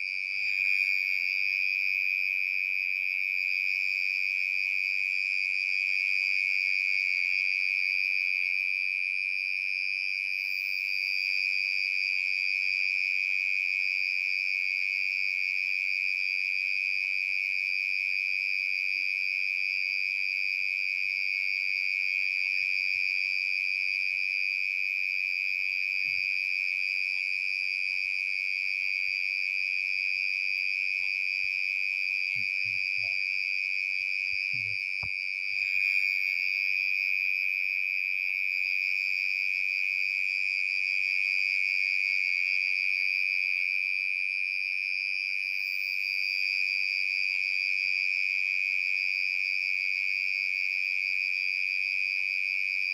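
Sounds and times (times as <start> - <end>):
cricket trilling: 0.0 - 52.9.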